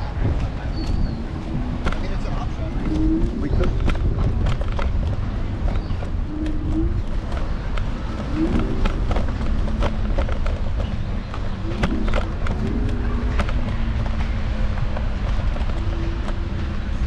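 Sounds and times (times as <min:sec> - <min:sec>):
low wind: 0:00.0 - 0:17.0
road rumble: 0:00.0 - 0:17.0.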